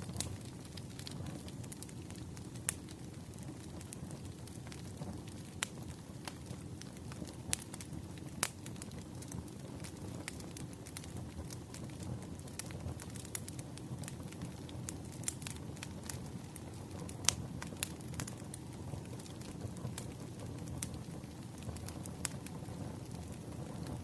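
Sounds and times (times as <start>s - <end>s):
fire popping and snapping: 0.0s - 24.0s.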